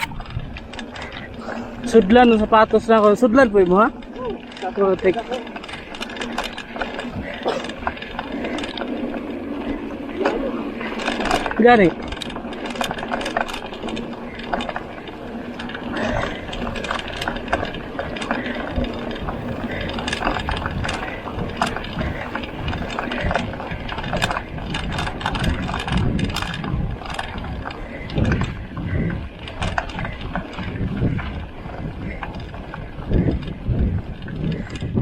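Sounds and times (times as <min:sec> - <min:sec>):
bike freehub ticking: 0:00.0 - 0:35.0.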